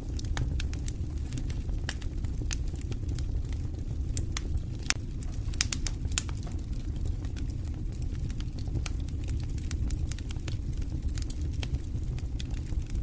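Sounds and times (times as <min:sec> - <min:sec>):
fire crackling in a fireplace: 0:00.0 - 0:13.0.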